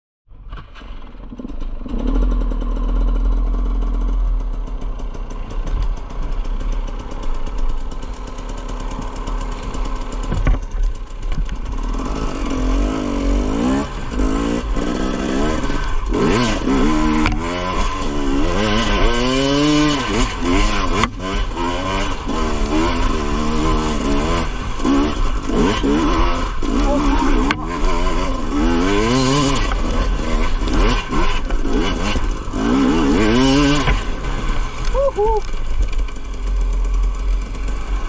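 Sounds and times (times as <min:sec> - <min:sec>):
dirt bike engine revving: 0:01.2 - 0:38.0.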